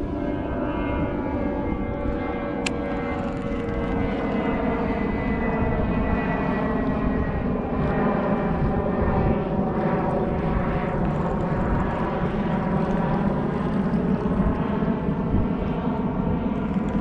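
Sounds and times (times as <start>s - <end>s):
steady engine drone: 0.0s - 17.0s.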